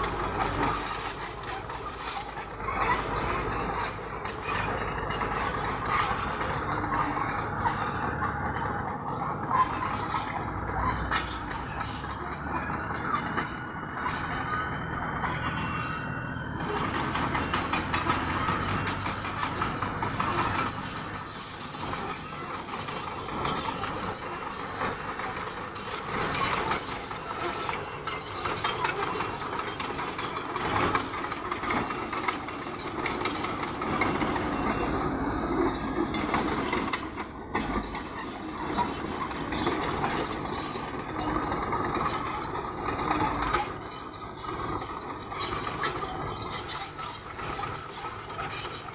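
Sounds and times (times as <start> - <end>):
bulldozer diesel engine clattering: 0.0 - 48.9.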